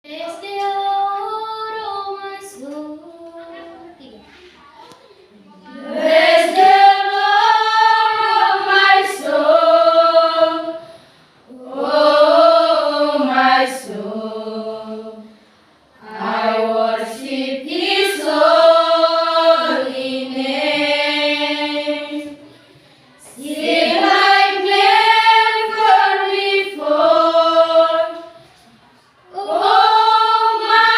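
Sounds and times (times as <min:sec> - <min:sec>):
students singing a cappella: 0:00.1 - 0:03.4, 0:05.5 - 0:30.9.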